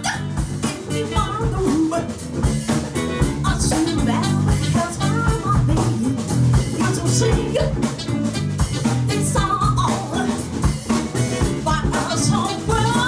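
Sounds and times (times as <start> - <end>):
guitar lines: 0.0 - 13.0
live band playing: 0.0 - 13.0.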